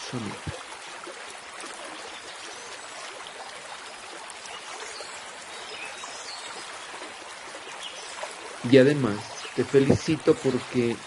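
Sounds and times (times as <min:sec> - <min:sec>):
water stream running: 0:00.0 - 0:11.0.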